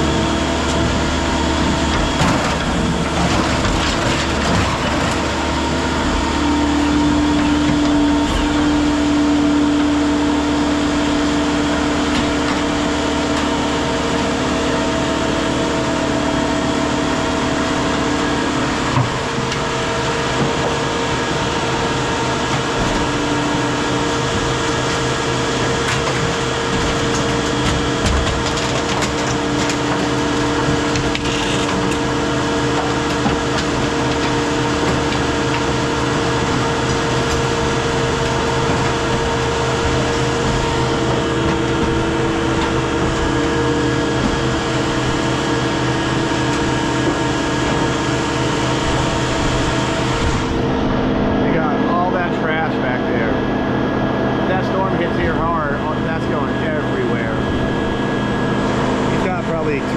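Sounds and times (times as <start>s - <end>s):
heavy equipment engine drone: 0.0s - 59.9s.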